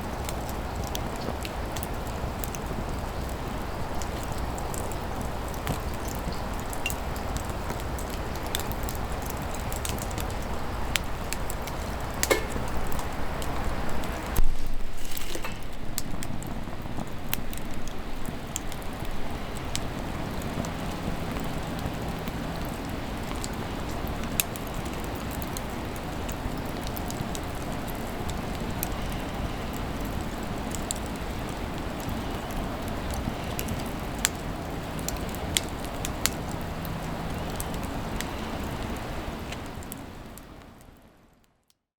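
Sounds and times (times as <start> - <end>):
wood fire crackling and popping: 0.0 - 41.5.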